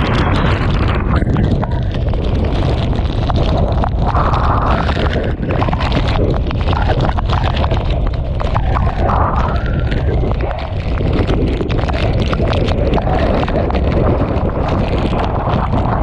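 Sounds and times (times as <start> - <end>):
strong wind rumble: 0.0 - 16.0
torrential rain crackles: 0.0 - 16.0.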